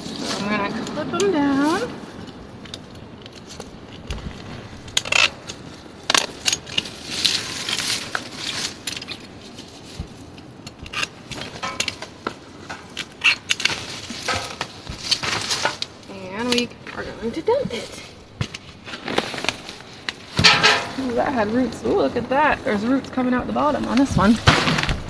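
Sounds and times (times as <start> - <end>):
dry stems rustling: 0.0 - 25.0.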